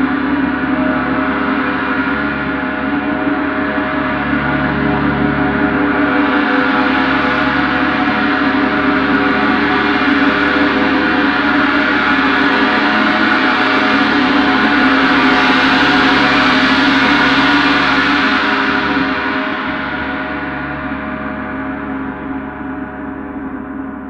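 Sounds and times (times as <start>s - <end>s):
gong resonating: 0.0s - 24.0s.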